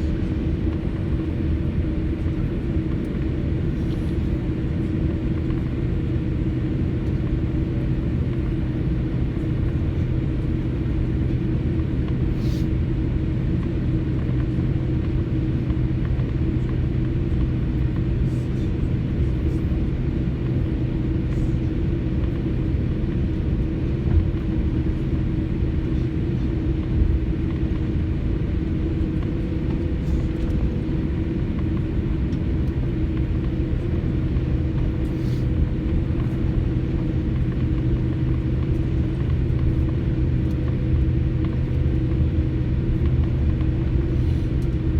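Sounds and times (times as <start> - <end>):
airliner cabin rumble and hum: 0.0 - 44.9.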